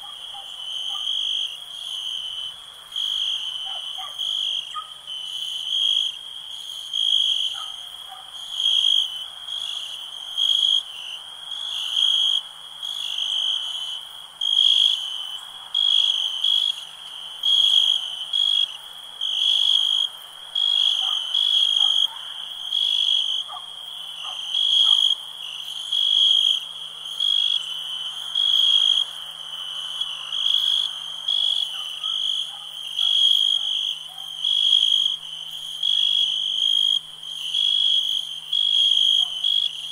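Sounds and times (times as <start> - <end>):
frog and insect chorus: 0.0 - 39.9.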